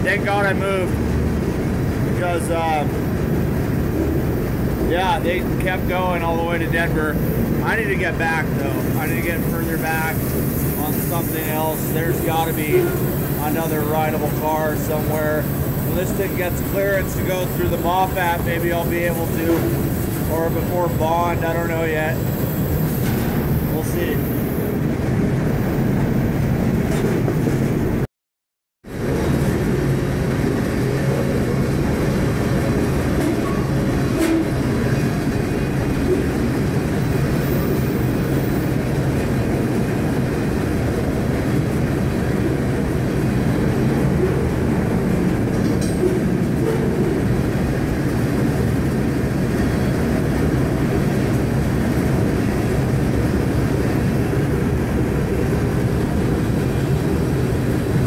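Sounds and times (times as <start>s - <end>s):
freight train rumble and rattle: 0.0s - 28.0s, 28.9s - 58.0s.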